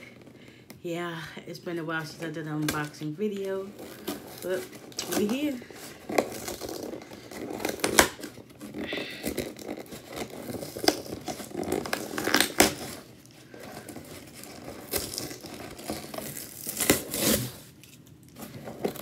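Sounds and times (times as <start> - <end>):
cardboard rustling and scraping: 1.8 - 19.0
packing tape tearing: 2.6 - 19.0.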